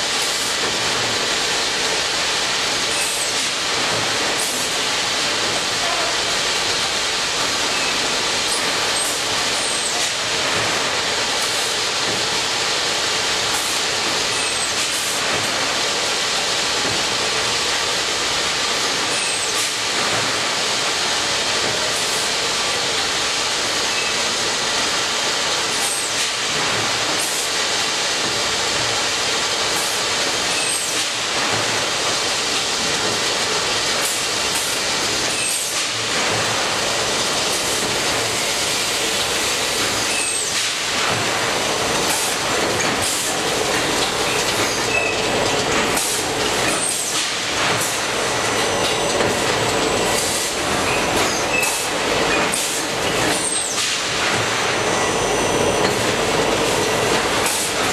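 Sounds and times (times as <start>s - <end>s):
conveyor mechanical clatter and hiss: 0.0s - 57.9s.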